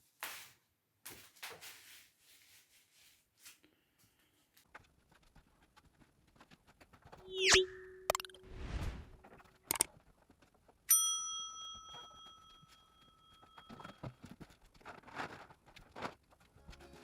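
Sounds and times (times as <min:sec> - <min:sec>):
knocks and rustles of handling: 0:00.0 - 0:07.3, 0:09.1 - 0:10.9, 0:11.5 - 0:17.0.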